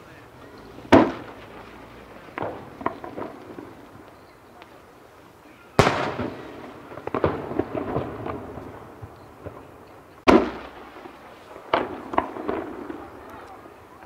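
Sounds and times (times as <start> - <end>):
firework shells booming: 0.0 - 4.9, 5.6 - 14.0
crackling firework pops: 0.5 - 4.9, 5.7 - 14.0.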